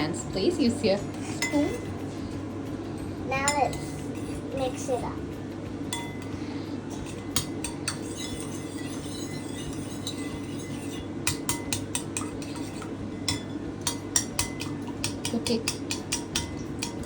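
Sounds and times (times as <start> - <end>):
spoon scraping bowl: 0.0 - 2.4, 3.4 - 5.0, 5.9 - 17.0
spoon clinking against bowl: 1.0 - 2.2, 3.4 - 4.9, 5.8 - 17.0.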